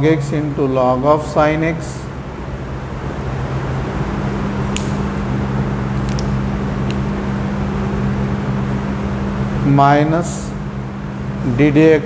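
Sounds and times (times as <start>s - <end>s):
machine hum and hiss: 0.0s - 12.0s.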